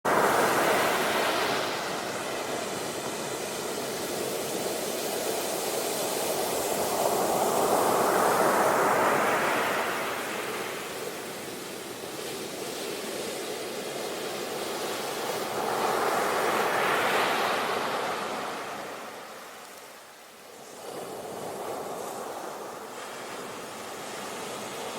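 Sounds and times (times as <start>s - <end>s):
sea waves washing on shore: 0.1s - 24.9s.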